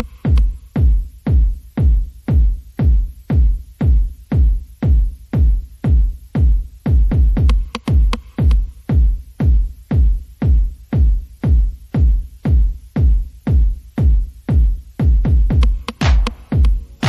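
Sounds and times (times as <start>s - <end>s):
deep kick drum beat: 0.0s - 17.0s
light percussion: 0.0s - 17.0s.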